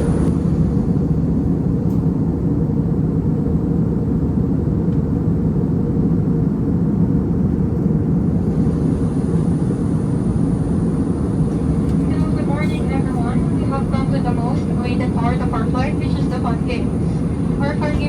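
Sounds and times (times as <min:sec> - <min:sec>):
airliner cabin engine rush: 0:00.0 - 0:18.0.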